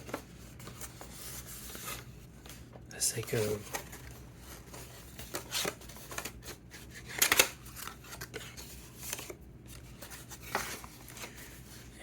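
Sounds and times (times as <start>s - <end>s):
paper packaging rustling: 0.0s - 12.0s.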